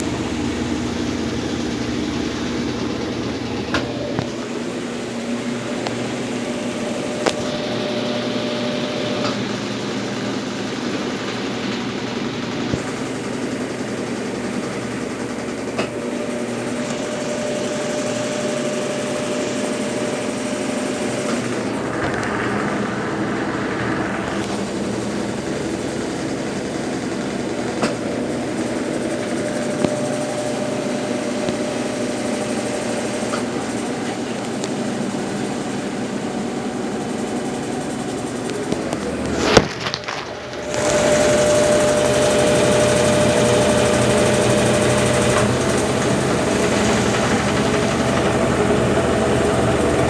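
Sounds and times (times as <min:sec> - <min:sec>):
washing machine motor hum: 0:00.0 - 0:50.0.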